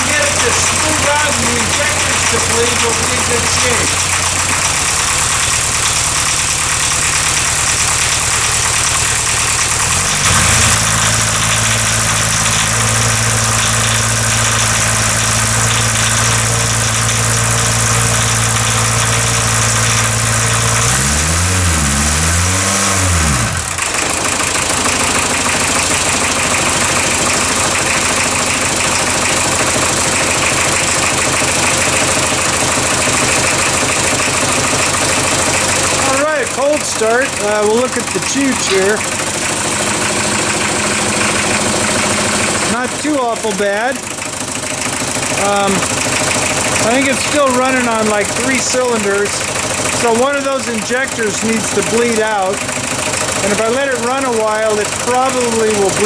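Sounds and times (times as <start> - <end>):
diesel engine running rough: 0.0 - 56.0.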